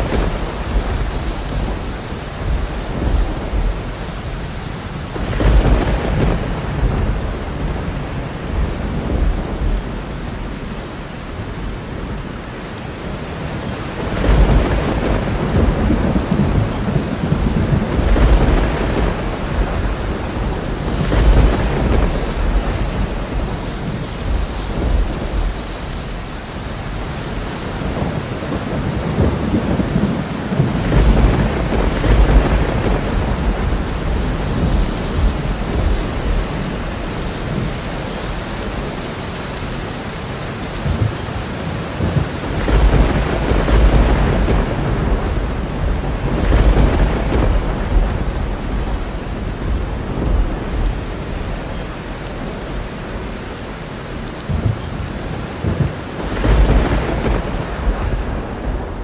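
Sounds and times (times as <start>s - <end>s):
rolling thunder: 0.0s - 12.4s, 13.0s - 59.0s
heavy rain: 0.0s - 59.0s.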